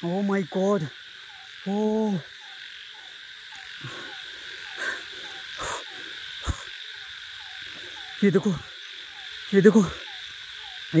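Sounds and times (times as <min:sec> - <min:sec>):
frogs calling: 0:00.0 - 0:11.0
high insect drone: 0:00.0 - 0:11.0.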